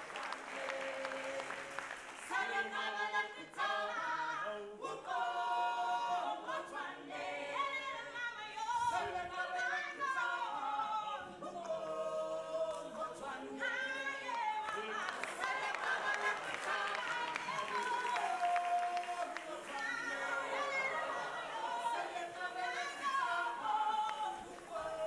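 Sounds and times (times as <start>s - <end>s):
group singing a cappella: 0.0s - 25.0s.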